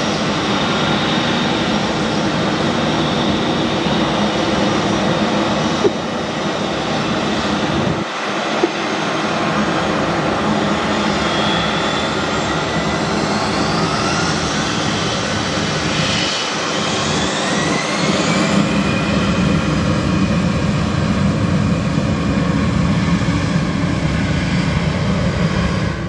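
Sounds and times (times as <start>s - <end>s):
high turbine whine: 0.0s - 26.0s
jet engines running: 0.0s - 26.0s.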